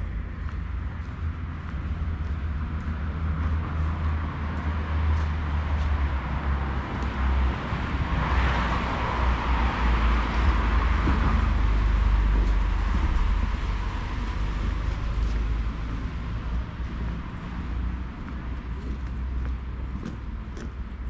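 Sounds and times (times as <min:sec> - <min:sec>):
low traffic rumble: 0:00.0 - 0:21.0.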